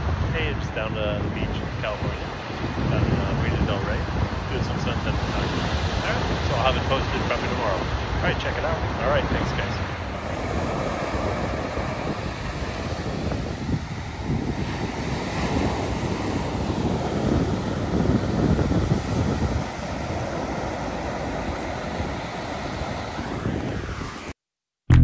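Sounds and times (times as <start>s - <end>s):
ocean surf on sandy beach: 0.0s - 24.3s
wind buffeting microphone: 0.0s - 24.3s.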